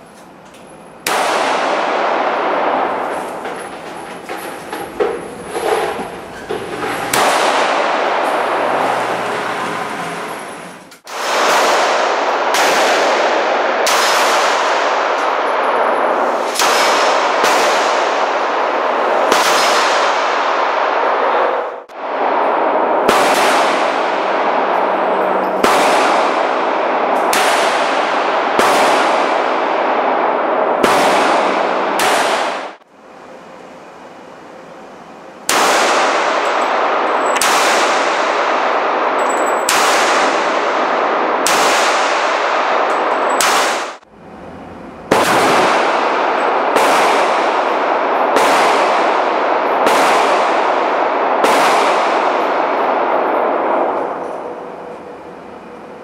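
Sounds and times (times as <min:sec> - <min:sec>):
pistol shots echoing indoors: 0:01.0 - 0:32.8, 0:34.2 - 0:56.0.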